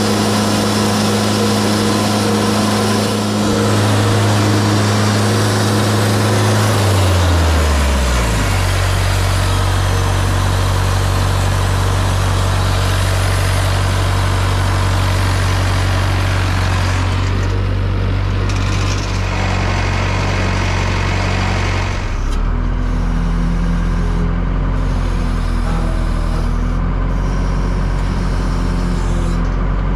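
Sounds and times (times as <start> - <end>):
sawmill engine running: 0.0 - 29.9.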